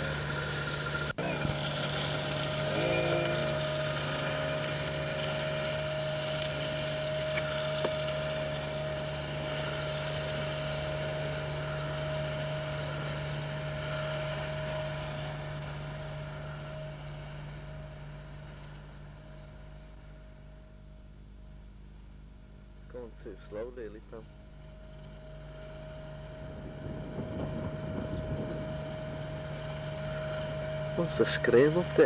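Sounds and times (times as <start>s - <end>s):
mini motorbike engine running: 0.0s - 20.4s, 22.9s - 32.0s.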